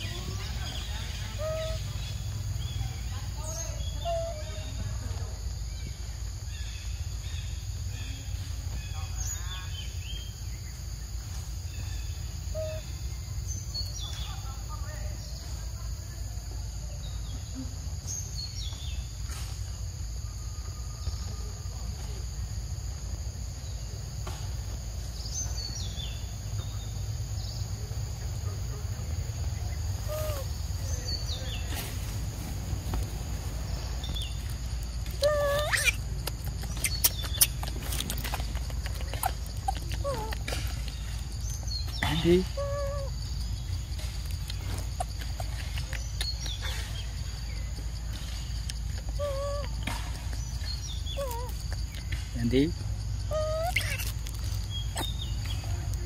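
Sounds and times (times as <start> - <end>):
birds chirping: 0.0 - 16.0, 23.4 - 56.0
insects: 0.0 - 56.0.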